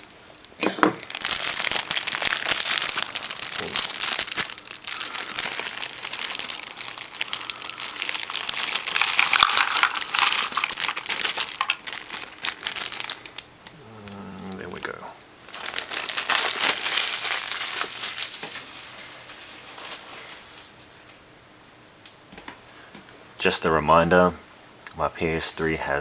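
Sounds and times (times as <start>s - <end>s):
plastic bag crinkling: 0.0s - 21.2s.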